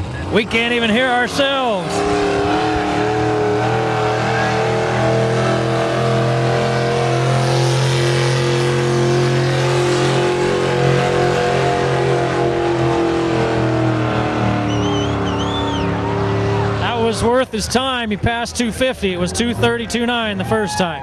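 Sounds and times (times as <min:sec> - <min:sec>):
diesel truck engine at full throttle: 0:00.0 - 0:21.0.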